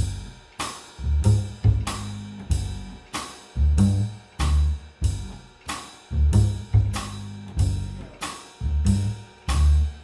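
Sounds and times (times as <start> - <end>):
jazz drum kit: 0.0 - 10.0
low bass notes: 0.0 - 10.0.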